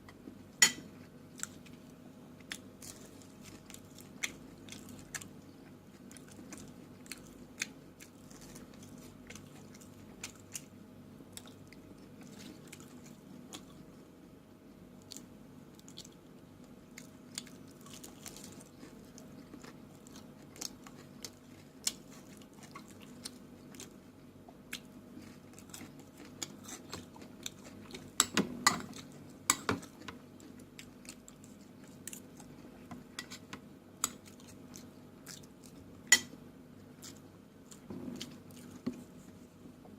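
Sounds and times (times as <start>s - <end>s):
low steady hum: 0.0s - 39.9s
person chewing and crunching food: 0.8s - 14.0s, 14.9s - 39.6s.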